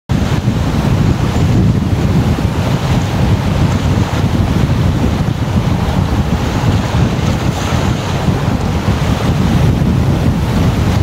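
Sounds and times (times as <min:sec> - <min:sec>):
storm wind buffeting microphone: 0:00.1 - 0:11.0.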